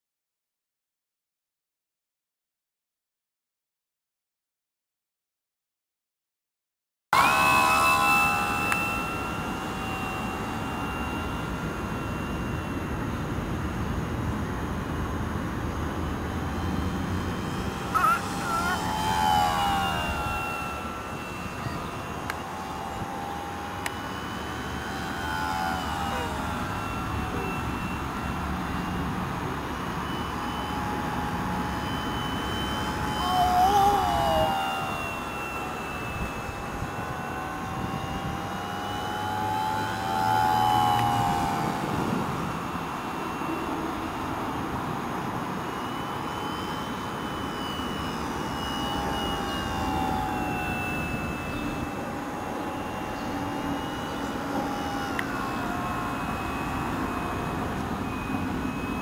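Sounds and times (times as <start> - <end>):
model plane motor whining: 7.2 - 59.0.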